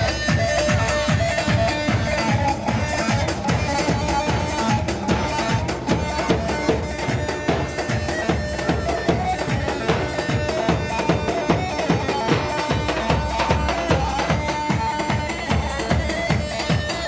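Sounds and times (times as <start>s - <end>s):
shrill reed wind instrument: 0.0s - 17.0s
steady drum beats: 0.0s - 17.0s.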